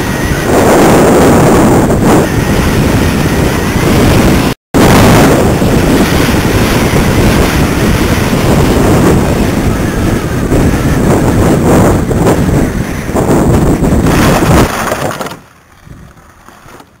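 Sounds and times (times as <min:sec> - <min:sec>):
wind rushing over camera: 0:00.0 - 0:17.0.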